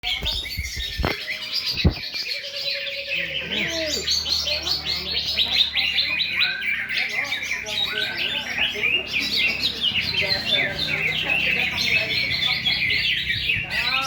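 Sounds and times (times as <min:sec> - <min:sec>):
birds chirping and trilling: 0:00.0 - 0:14.0.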